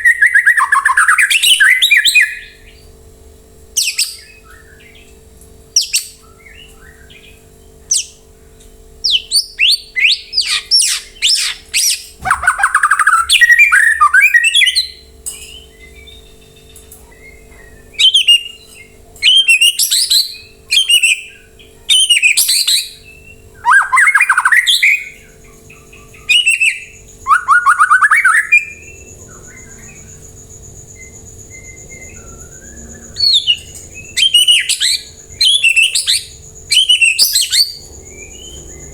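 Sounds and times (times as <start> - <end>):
bird singing whistled phrases: 0.0 - 2.8, 3.8 - 5.0, 9.0 - 30.1, 31.0 - 38.9.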